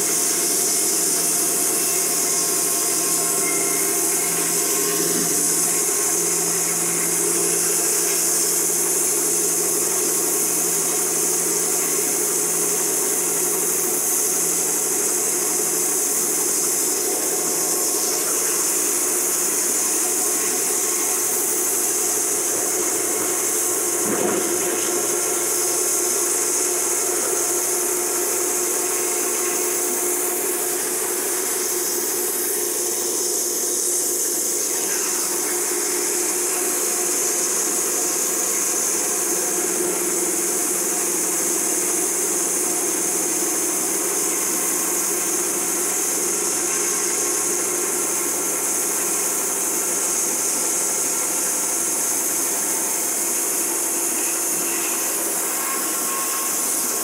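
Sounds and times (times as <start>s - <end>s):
band sawmill sawing log: 0.0s - 57.0s.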